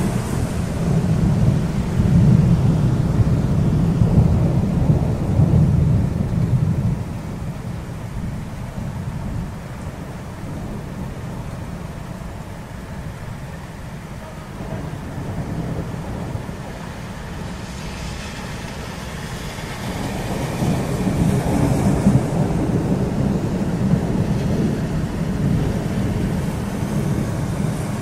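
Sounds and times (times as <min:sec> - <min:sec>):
rain falling: 0:00.0 - 0:28.0
thunder rumbling: 0:00.0 - 0:28.0.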